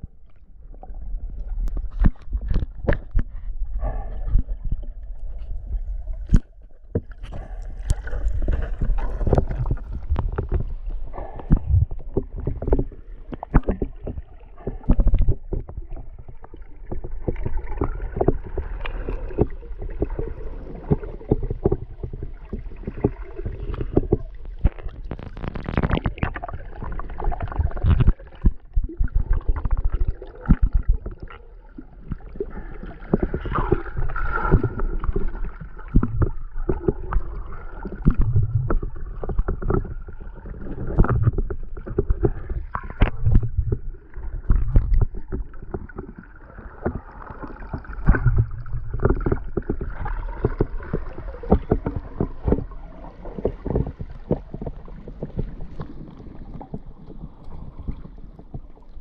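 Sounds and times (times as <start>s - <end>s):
muffled underwater water noise: 0.0s - 59.0s.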